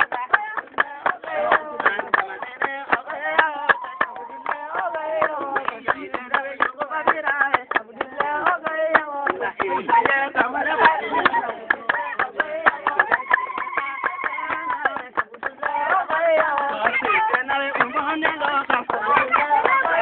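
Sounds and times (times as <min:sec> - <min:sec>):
fast rhythmic hand-clapping: 0:00.0 - 0:20.0
group singing: 0:00.0 - 0:20.0.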